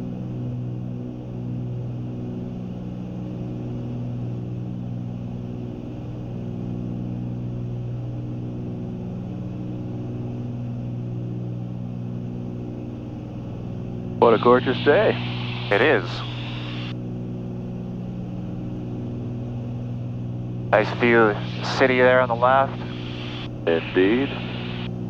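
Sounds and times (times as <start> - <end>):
propeller plane engines droning: 0.1 - 25.0.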